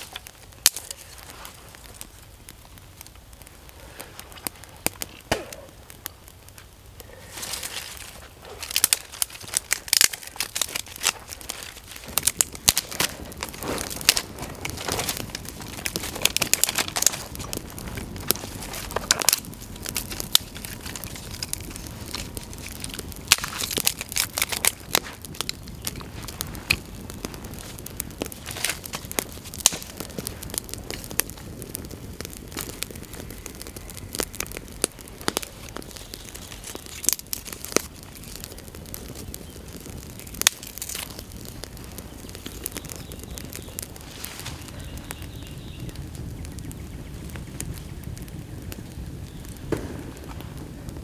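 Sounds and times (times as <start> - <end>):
dry sticks rustling: 0.0 - 46.3
twig fire crackling: 0.0 - 51.0.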